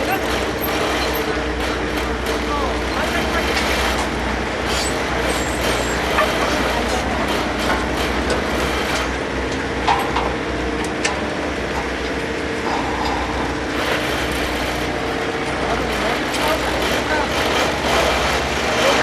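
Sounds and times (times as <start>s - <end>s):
sharp clanks and clicks: 0.0s - 4.2s, 4.9s - 19.0s
machine engine running: 0.0s - 19.0s.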